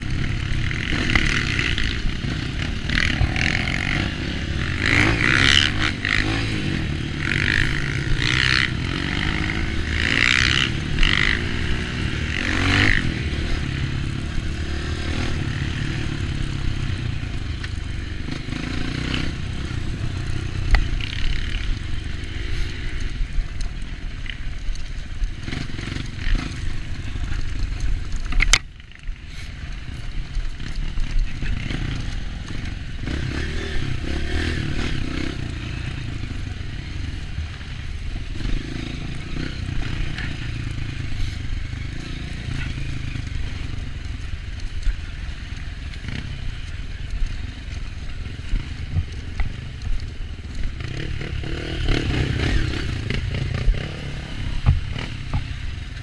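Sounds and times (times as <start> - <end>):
dirt bike engine: 0.0 - 56.0.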